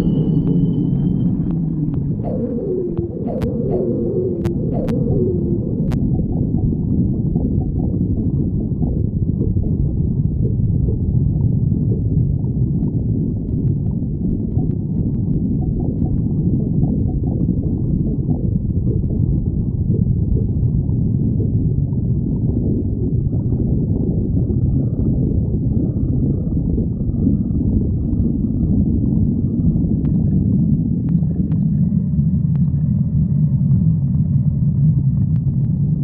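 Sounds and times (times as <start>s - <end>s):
stomach growling: 0.0s - 36.0s.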